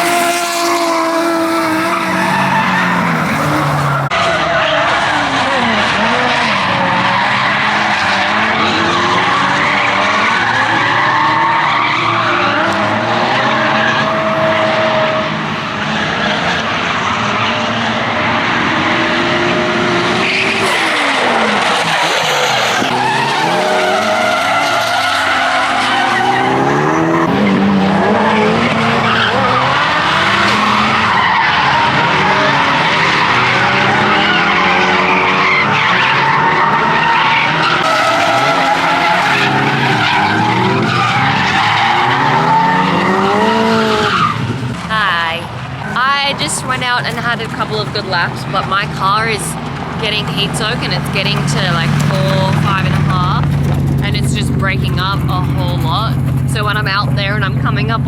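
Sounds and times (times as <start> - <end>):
car engines revving: 0.0 - 58.0
tyres squealing and skidding: 0.0 - 58.0.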